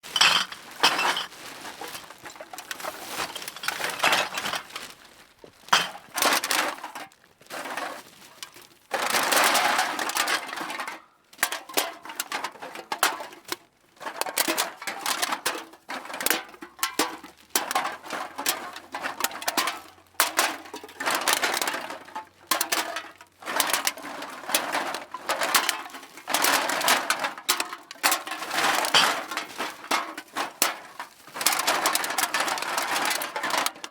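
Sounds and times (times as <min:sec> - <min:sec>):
cans clattering into a bag: 0:00.0 - 0:05.0, 0:05.7 - 0:33.9.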